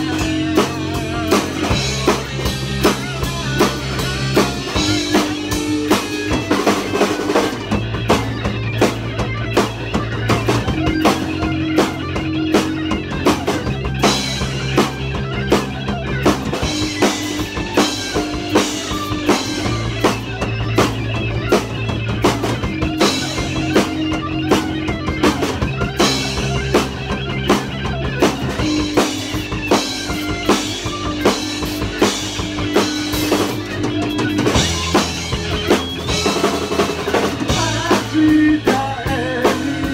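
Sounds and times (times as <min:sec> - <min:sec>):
held electric guitar notes: 0:00.0 - 0:39.9
rock band playing: 0:00.0 - 0:39.9
steady drum beat: 0:00.0 - 0:39.9.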